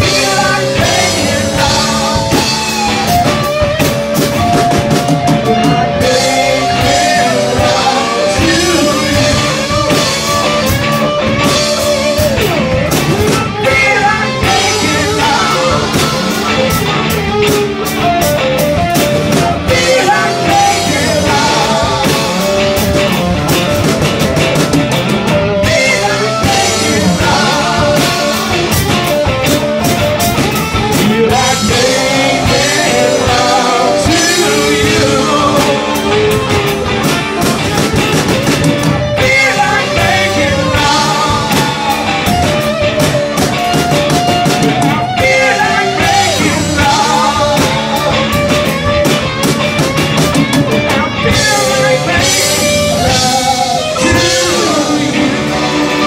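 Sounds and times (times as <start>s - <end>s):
person singing: 0.0s - 49.2s, 50.3s - 56.0s
drum kit: 0.0s - 56.0s
electric guitars: 0.0s - 56.0s.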